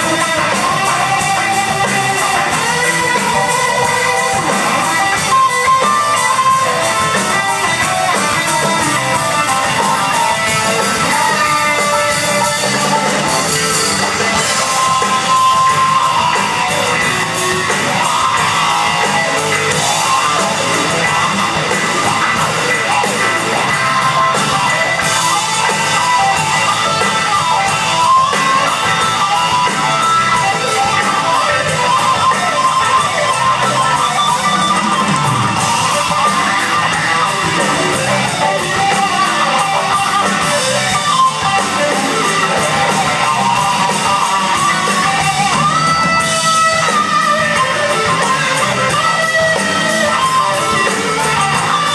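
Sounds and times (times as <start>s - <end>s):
drum kit: 0.0s - 51.9s
electric guitar: 0.0s - 51.9s
live rock band playing: 0.0s - 51.9s.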